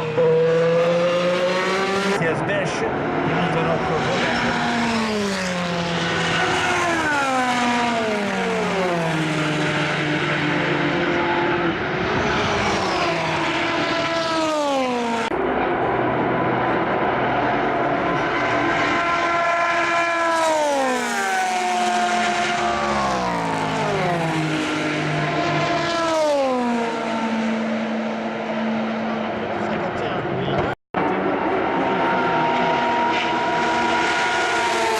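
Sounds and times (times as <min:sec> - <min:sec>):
race car engines passing: 0:00.0 - 0:34.9.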